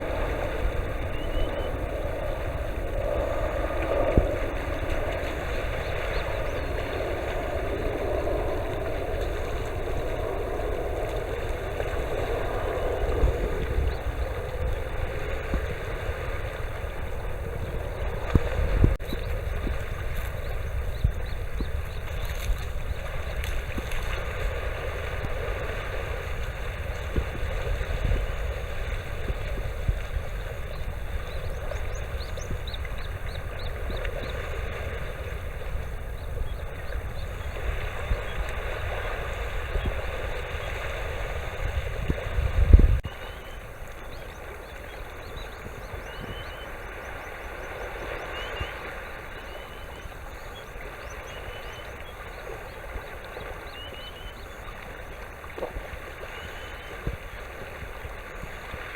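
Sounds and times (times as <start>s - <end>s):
sandpiper whistled calls: 0.0s - 41.8s, 43.0s - 58.9s
wind and sea noise: 0.0s - 58.9s
wind rumble on microphone: 0.0s - 58.9s.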